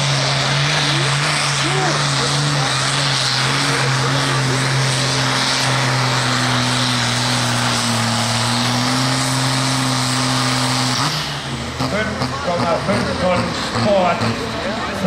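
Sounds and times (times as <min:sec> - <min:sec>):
tractor diesel engine at full load: 0:00.0 - 0:15.0.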